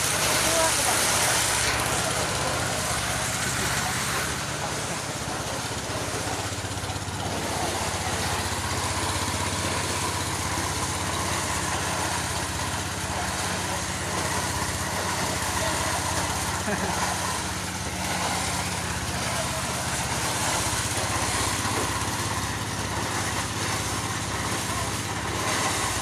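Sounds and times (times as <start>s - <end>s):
engine drone: 0.0s - 26.0s
thresher machine noise: 0.0s - 26.0s.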